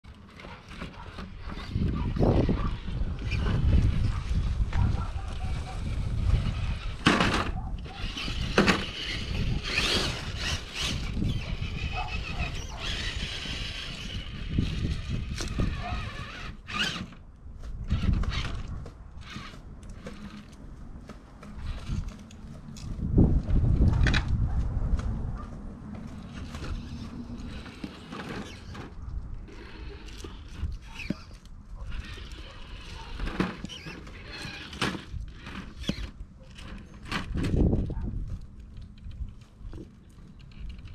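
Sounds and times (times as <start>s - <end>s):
motor and drivetrain whirring: 0.0s - 24.5s, 25.3s - 40.9s
tyres and chassis scraping: 0.0s - 40.9s.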